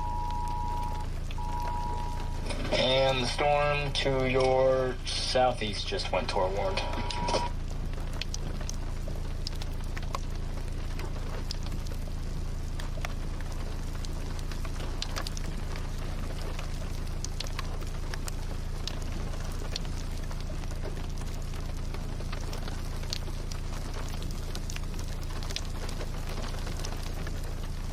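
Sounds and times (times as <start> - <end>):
steady low hum: 0.0 - 27.0
rain falling: 0.0 - 27.9.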